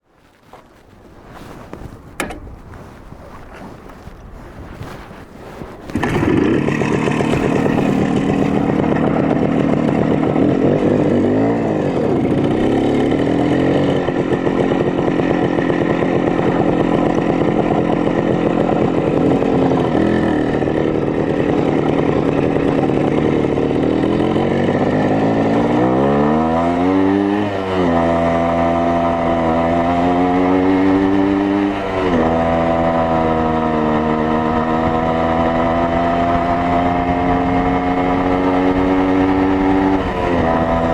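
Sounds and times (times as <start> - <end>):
two-stroke motorcycle engine revving: 5.9 - 40.9.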